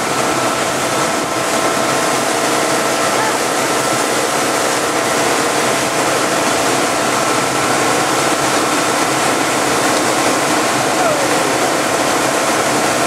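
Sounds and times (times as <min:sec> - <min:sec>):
boat engine running: 0:00.0 - 0:13.0
wake water rushing: 0:00.0 - 0:13.0
wind: 0:00.0 - 0:13.0.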